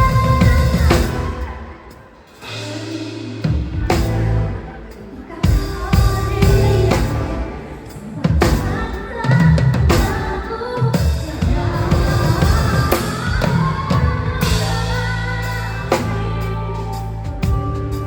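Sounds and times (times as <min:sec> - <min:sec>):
band instruments playing melody: 0:00.0 - 0:18.0.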